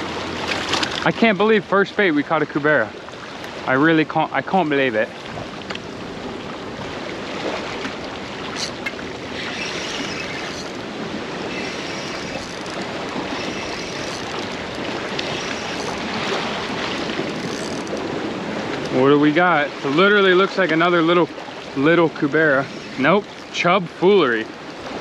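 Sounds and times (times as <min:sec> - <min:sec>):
water splashing against rocks: 0:00.0 - 0:25.0.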